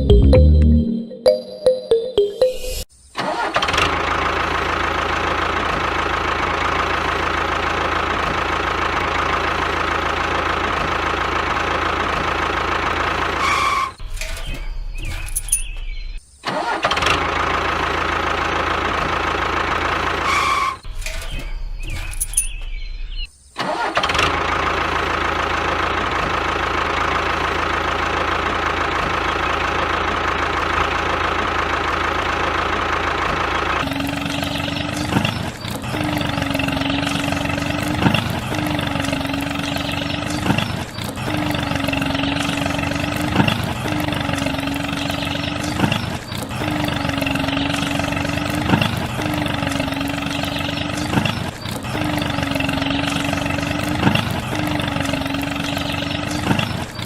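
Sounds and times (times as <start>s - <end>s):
short engine sound: 0.0s - 1.0s, 3.2s - 15.8s, 16.6s - 57.0s
small engine running: 3.5s - 14.0s, 16.9s - 20.8s, 23.8s - 57.0s.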